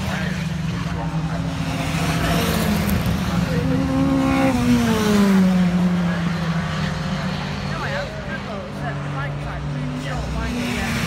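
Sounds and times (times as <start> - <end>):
race car engines running hard: 0.0 - 11.0.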